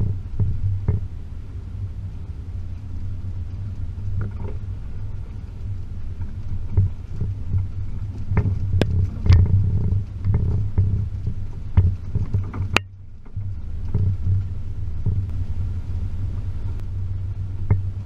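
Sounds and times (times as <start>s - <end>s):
vehicle knocks and clatters: 0.0s - 1.2s, 2.7s - 18.0s
car engine rumbling: 0.0s - 18.0s.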